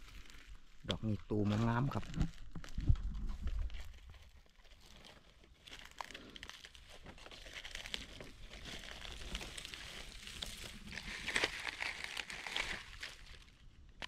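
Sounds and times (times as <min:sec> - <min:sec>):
dry leaves rustling and crackling: 0:00.0 - 0:13.6.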